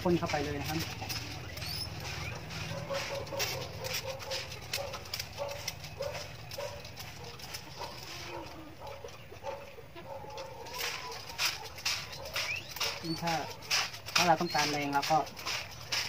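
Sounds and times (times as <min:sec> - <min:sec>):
pump sprayer hissing: 0:00.0 - 0:08.8, 0:10.7 - 0:16.0.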